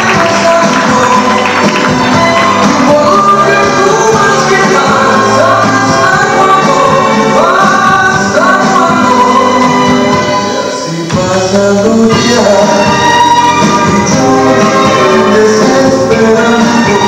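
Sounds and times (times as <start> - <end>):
music with singing: 0.0 - 17.0.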